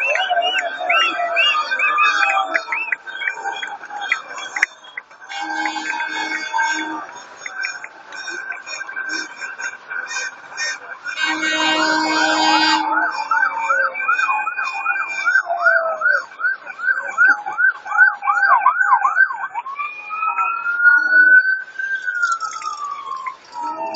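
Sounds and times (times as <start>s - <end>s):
emergency vehicle siren: 0.0s - 23.9s.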